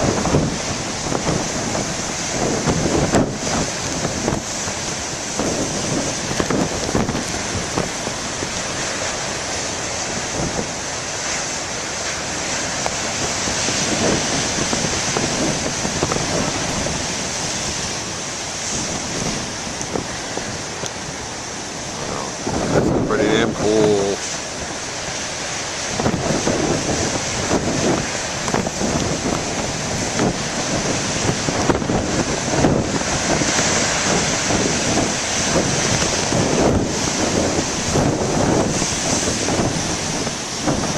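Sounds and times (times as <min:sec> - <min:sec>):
heavy surf pounding: 0:00.0 - 0:40.9
wind rumbling on microphone: 0:00.0 - 0:40.9.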